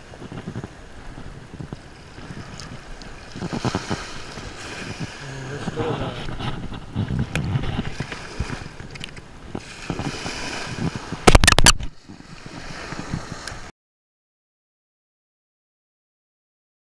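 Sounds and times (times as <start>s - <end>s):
shallow surf washing: 0.0s - 13.7s
wind on microphone: 0.0s - 13.7s.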